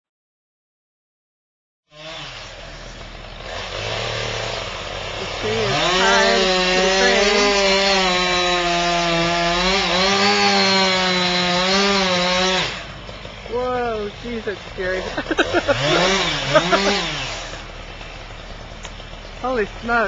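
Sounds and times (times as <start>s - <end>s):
chainsaw starting and revving: 1.9s - 20.0s.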